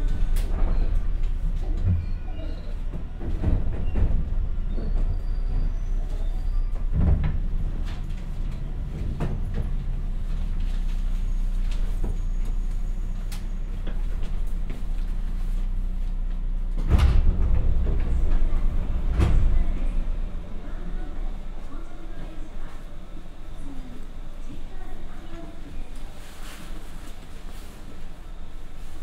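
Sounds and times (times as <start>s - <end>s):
standing train low hum: 0.0s - 29.0s
train running and brake rumble: 0.0s - 29.0s.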